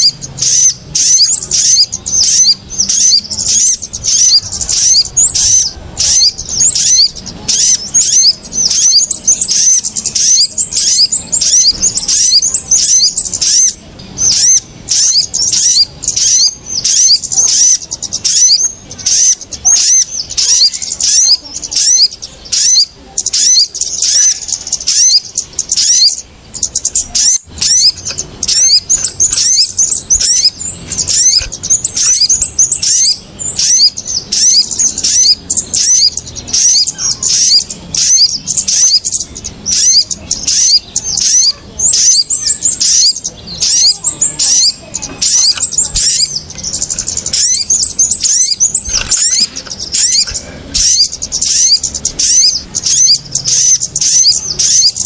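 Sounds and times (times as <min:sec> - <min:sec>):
birds chirping rapidly: 0:00.0 - 0:55.0.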